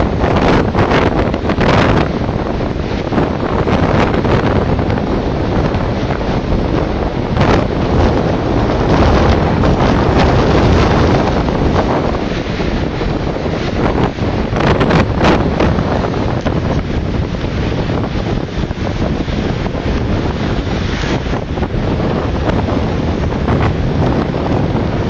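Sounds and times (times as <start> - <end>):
waves breaking on shore: 0.0 - 25.0
wind buffeting microphone: 0.0 - 25.0.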